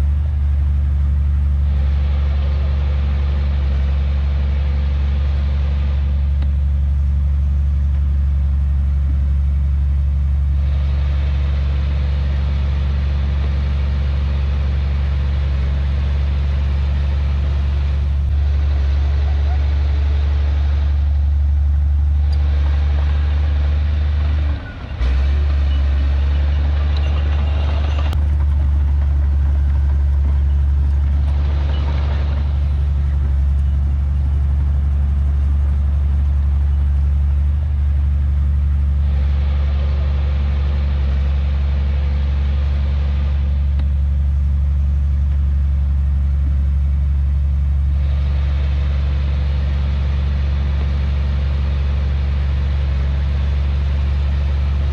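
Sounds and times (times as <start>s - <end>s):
heavy diesel engine droning: 0.0s - 54.9s.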